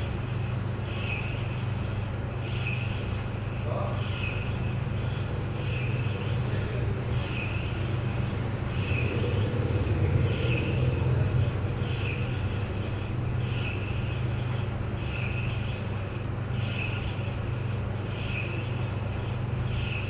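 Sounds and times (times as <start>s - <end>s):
clothes dryer humming: 0.0s - 20.0s
dryer swishing: 0.0s - 20.0s.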